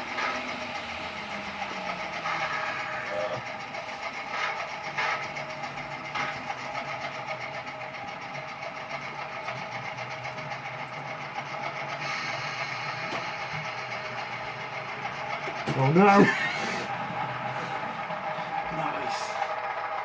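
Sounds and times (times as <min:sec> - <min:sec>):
model train electric motor whirring: 0:00.0 - 0:20.0.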